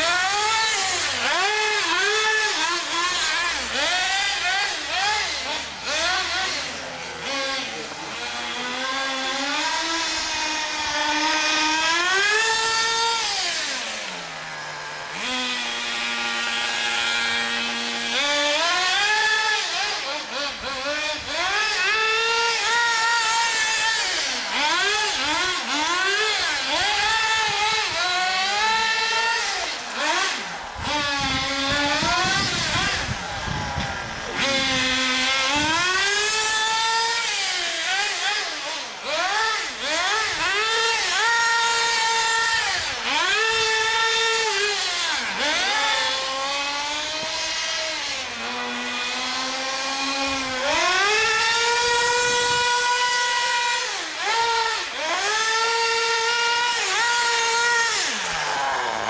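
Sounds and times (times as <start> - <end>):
small engines revving: 0.0 - 59.0.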